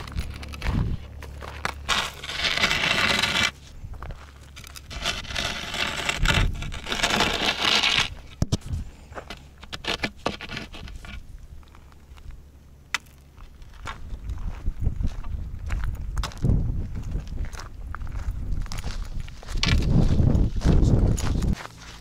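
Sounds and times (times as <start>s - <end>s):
walking stick scraping gravel: 0.0s - 22.0s.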